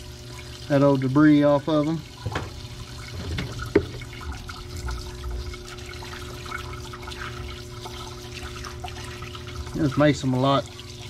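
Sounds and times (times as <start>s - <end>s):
solvent pouring and trickling: 0.0s - 11.0s
steady machine hum: 0.0s - 11.0s.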